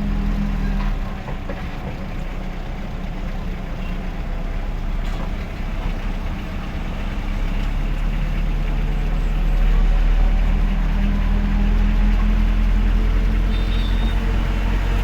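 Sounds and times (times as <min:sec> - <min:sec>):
road noise: 0:00.0 - 0:15.0
truck engine rumbling: 0:00.0 - 0:15.0.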